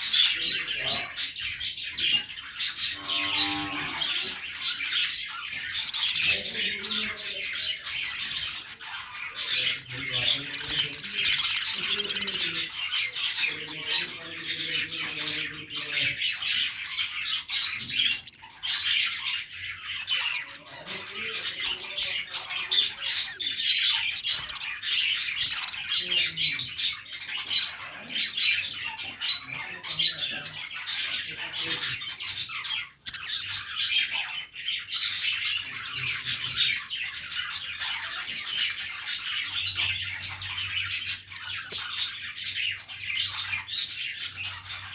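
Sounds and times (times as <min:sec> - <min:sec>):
budgerigars chattering: 0:00.0 - 0:44.9.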